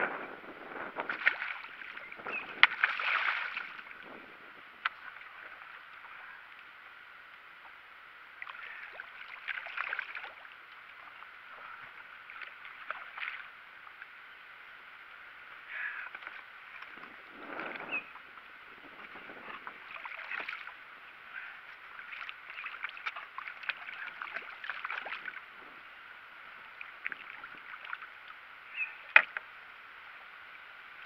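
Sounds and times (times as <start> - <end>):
water sloshing and splashing: 0.8 - 6.6, 8.4 - 14.2, 16.1 - 29.5.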